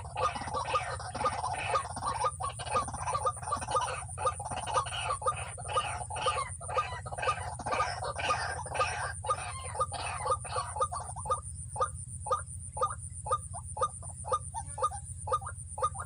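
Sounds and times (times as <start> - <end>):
bird clucking calls: 0.0 - 16.0
steady low hum: 0.0 - 16.0.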